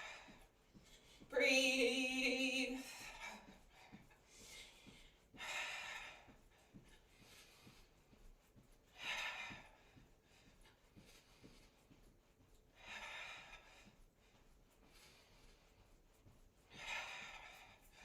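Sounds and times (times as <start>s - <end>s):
woman breathing hard: 0.0s - 1.4s, 2.0s - 18.0s.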